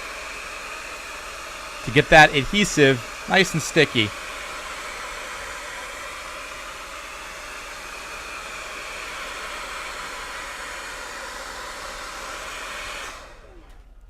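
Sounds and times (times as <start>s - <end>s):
hot-air blower hissing: 0.0s - 13.6s.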